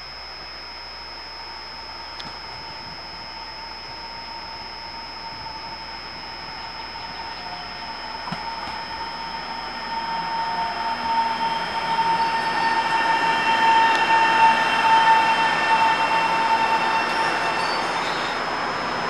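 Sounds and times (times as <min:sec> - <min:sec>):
high train whine: 0:00.0 - 0:19.0
electric train approaching: 0:00.8 - 0:19.0.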